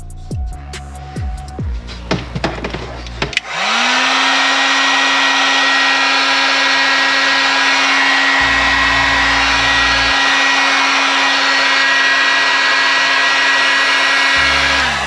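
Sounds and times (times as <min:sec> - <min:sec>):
heat gun fan blowing air: 0:01.8 - 0:15.0.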